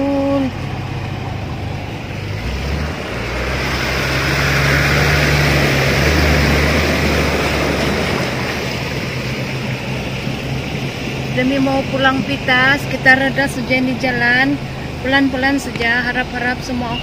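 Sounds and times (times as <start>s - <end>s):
car engine droning: 0.0s - 17.0s
water rushing against car: 0.0s - 17.0s.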